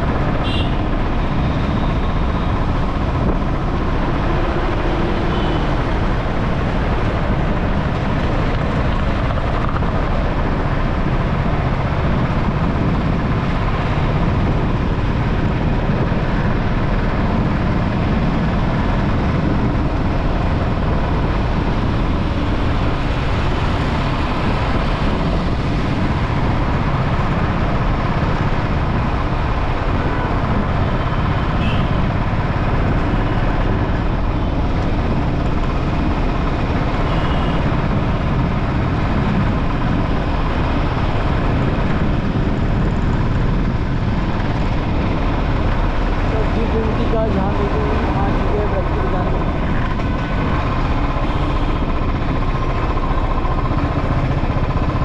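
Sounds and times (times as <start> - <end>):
wind and road noise on motorcycle: 0.0 - 55.0.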